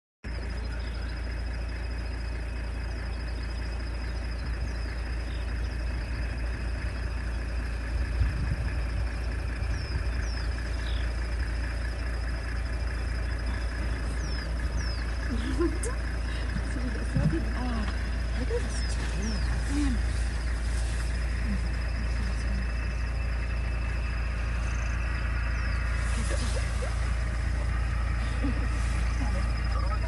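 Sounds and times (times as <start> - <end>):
engine idling: 0.2 - 30.0.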